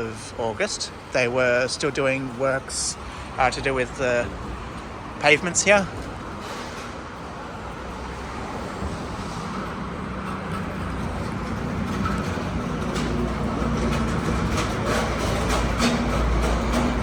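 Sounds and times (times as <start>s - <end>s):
road traffic: 0.0s - 17.0s
vehicle engine approaching: 0.0s - 17.0s.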